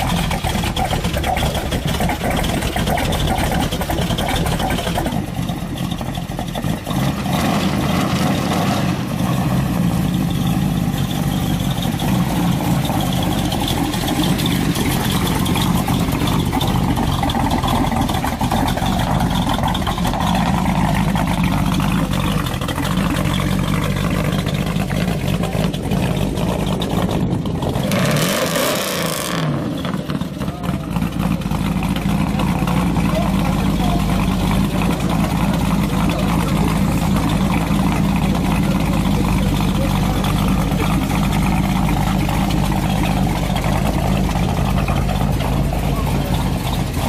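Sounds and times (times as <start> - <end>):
car engine rumbling: 0.0 - 47.0.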